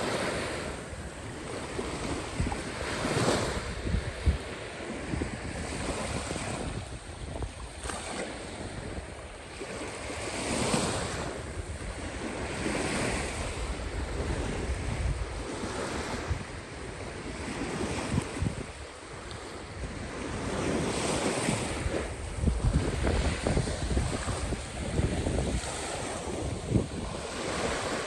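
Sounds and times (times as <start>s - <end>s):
waves washing onto shore: 0.0s - 28.0s
wind buffeting microphone: 0.0s - 28.0s.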